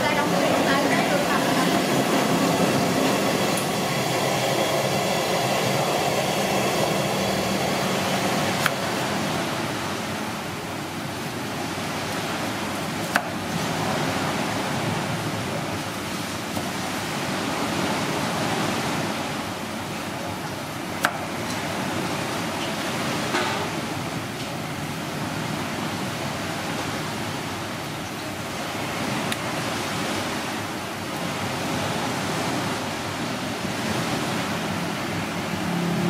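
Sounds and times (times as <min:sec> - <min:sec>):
steady rushing noise: 0:00.0 - 0:27.6, 0:28.4 - 0:36.0.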